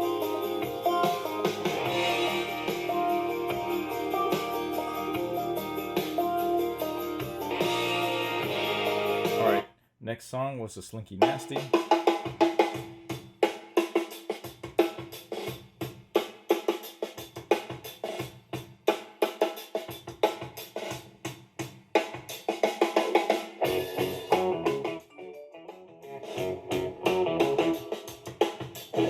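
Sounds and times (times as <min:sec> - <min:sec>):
music with busy drum beat: 0:00.0 - 0:09.6, 0:11.1 - 0:25.1, 0:26.1 - 0:29.0.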